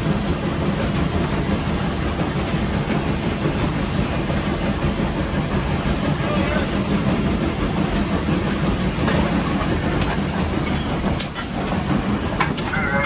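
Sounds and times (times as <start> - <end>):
steam locomotive rumble and hiss: 0.0 - 13.0.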